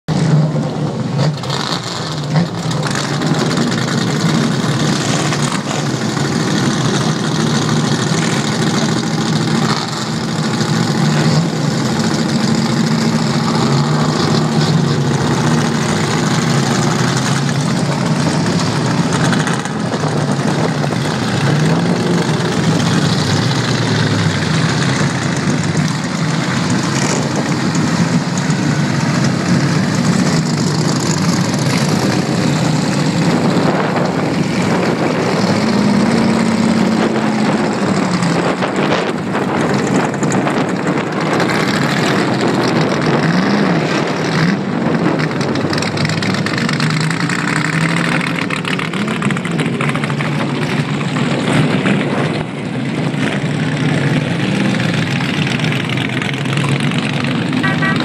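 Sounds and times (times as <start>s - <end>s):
car engines idling and revving: 0.0s - 58.0s.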